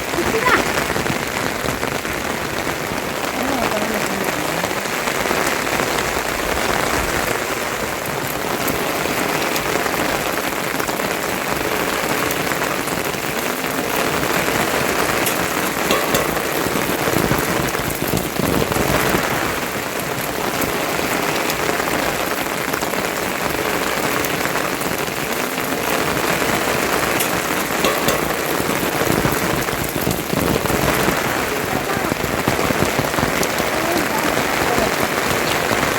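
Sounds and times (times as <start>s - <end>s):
raindrop ticks: 0.0s - 35.9s
steady rain falling: 0.0s - 35.9s.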